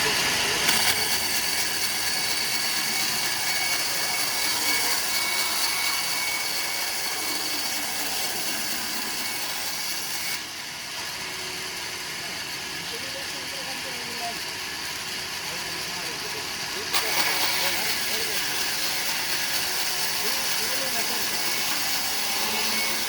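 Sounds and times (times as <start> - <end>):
power saw cutting wood: 0.0 - 23.0.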